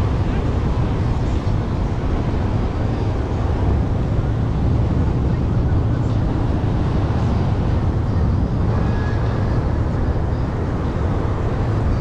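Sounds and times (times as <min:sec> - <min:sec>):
ocean surf washing: 0:00.0 - 0:12.0
wind rumbling on microphone: 0:00.0 - 0:12.0.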